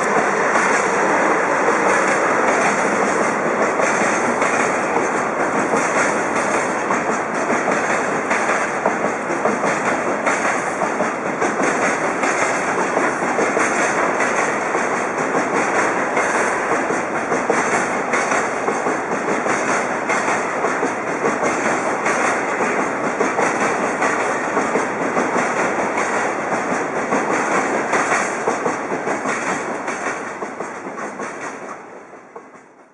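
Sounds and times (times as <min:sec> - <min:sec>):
freight train wheels clacking: 0:00.0 - 0:32.9.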